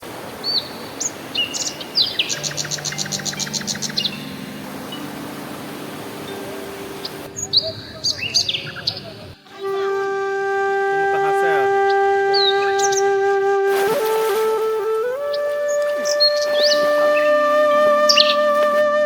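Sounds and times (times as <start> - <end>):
steady background hiss: 0.0 - 19.0
birds whistling: 0.4 - 9.9, 11.2 - 19.0.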